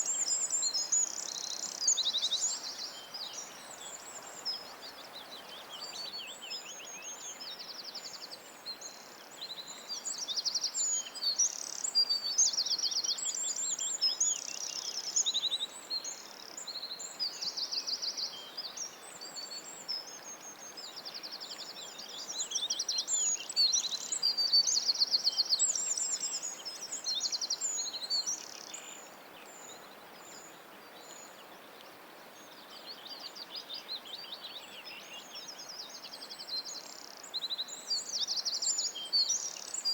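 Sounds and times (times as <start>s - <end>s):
outdoor background hiss: 0.0s - 39.9s
songbird chirps and trills: 0.0s - 39.9s.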